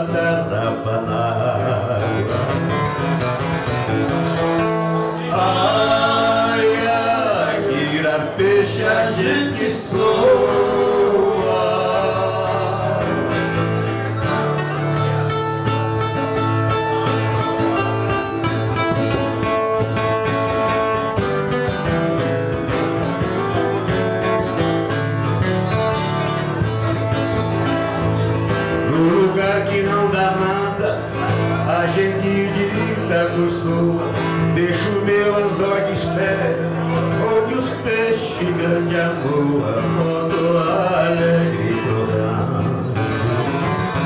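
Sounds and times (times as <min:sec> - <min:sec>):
guitars strumming and picking: 0:00.0 - 0:44.0.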